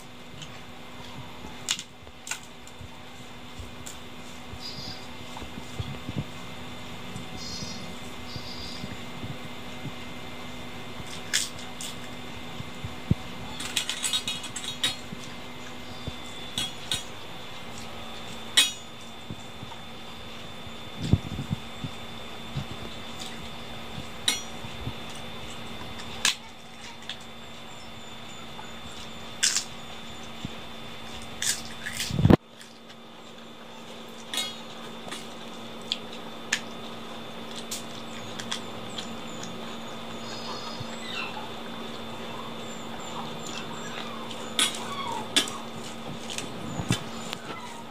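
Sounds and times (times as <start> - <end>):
low hum: 0.0 - 47.9.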